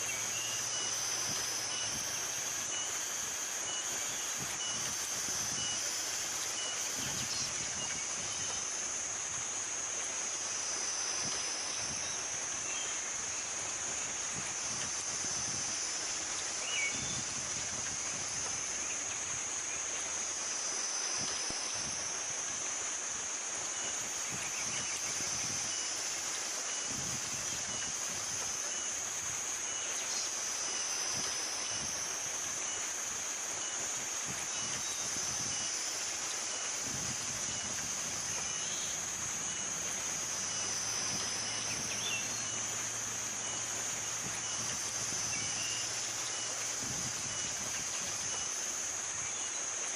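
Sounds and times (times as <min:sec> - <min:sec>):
high-pitched insect drone: 0:00.0 - 0:49.9.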